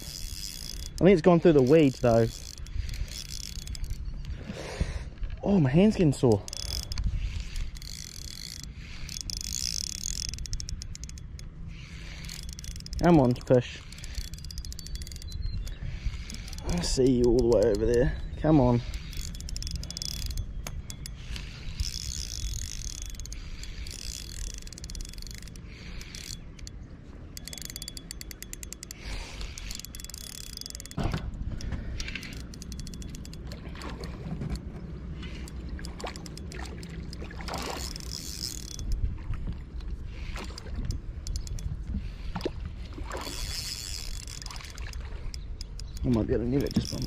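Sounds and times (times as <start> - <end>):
fishing reel gears ticking: 0.0 - 4.5, 5.6 - 42.5, 43.1 - 47.0.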